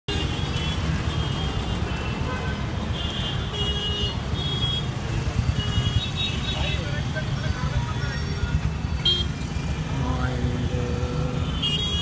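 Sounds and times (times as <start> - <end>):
traffic engine rumble: 0.1 - 12.0.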